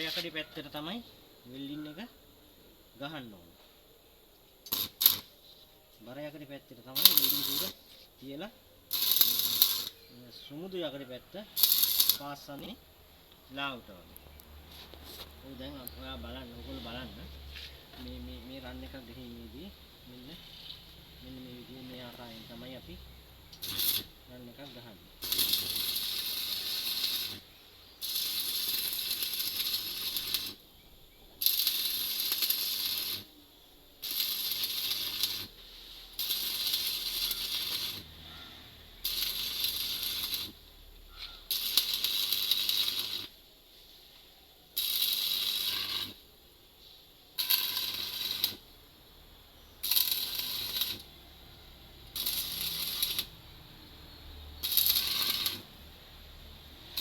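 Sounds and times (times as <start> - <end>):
welding arc crackling and hissing: 0.0 - 1.9, 4.4 - 5.4, 6.0 - 10.0, 11.6 - 12.8, 14.7 - 33.4, 34.0 - 43.4, 44.7 - 46.3, 47.4 - 49.0, 49.7 - 53.9, 54.6 - 57.0.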